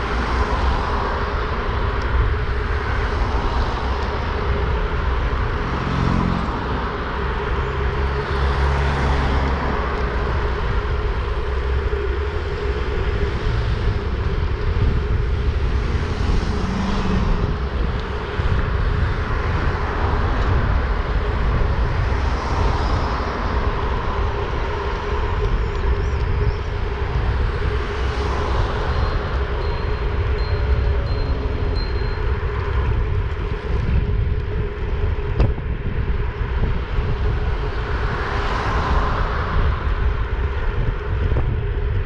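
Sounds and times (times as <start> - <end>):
vehicle hum: 0.0 - 42.0
wind rumble on microphone: 0.0 - 42.0.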